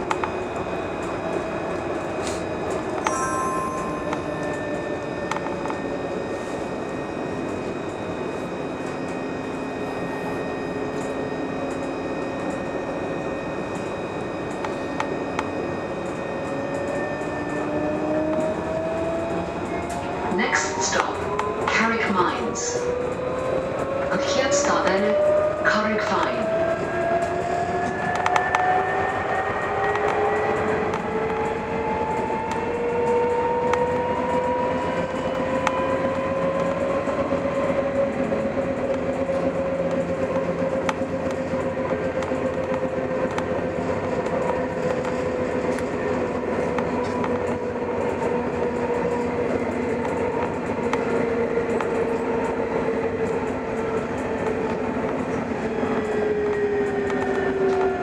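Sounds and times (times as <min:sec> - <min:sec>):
tram traction motor whine: 0:00.0 - 0:58.0
wheels rumbling on rail: 0:00.0 - 0:58.0.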